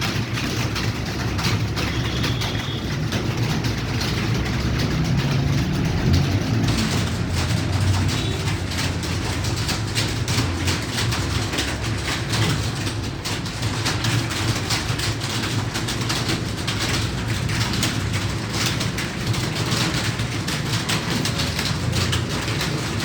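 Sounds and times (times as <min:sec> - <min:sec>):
keyboards typing clatter: 0:00.0 - 0:23.0.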